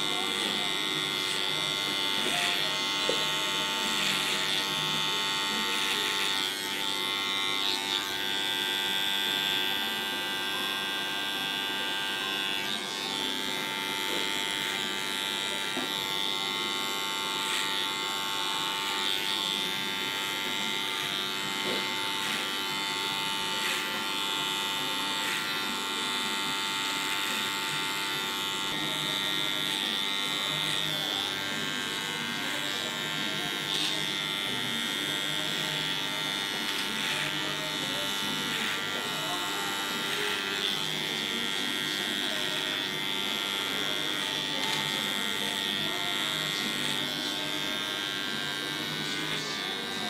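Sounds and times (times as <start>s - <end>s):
electric hair clipper buzzing: 0.0s - 50.0s.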